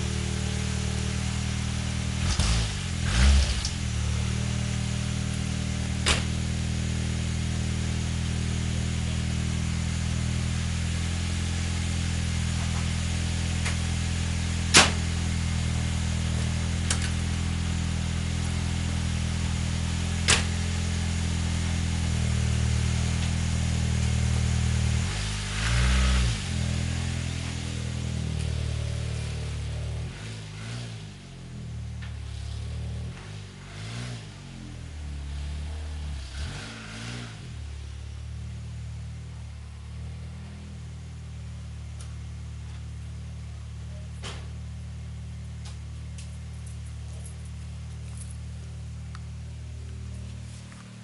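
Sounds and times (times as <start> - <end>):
car engine idling: 0.0 - 33.7, 37.5 - 51.0.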